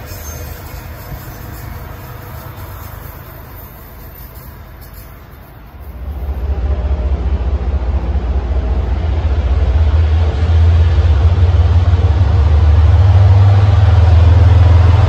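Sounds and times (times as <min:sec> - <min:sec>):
train coaches rumbling: 0:00.0 - 0:15.0
train engine drone: 0:00.0 - 0:15.0.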